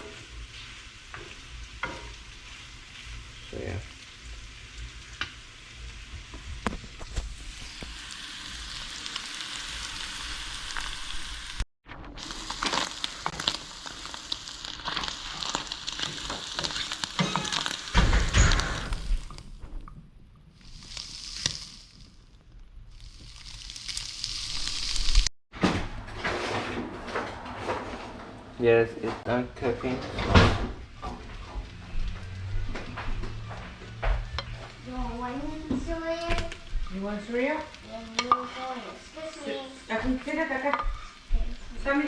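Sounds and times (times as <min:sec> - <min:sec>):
food sizzling in a frying pan: 0:00.0 - 0:25.3, 0:30.6 - 0:42.0.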